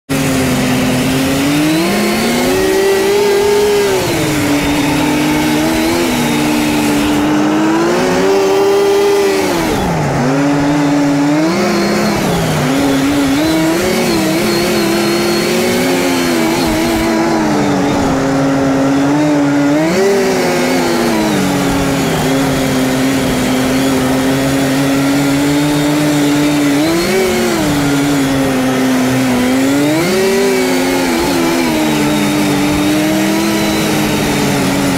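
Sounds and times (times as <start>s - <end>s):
snowmobile two-stroke engine revving: 0.0s - 34.9s.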